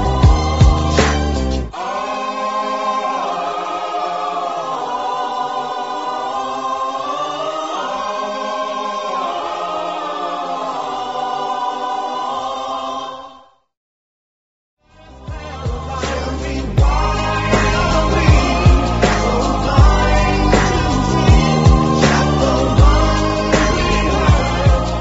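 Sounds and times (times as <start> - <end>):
choir singing held chords: 0.0 - 13.6, 14.9 - 25.0.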